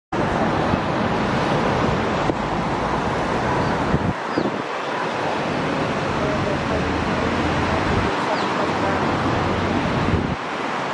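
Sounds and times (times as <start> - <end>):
city traffic hum: 0.1 - 10.9
wind on microphone: 0.2 - 10.9.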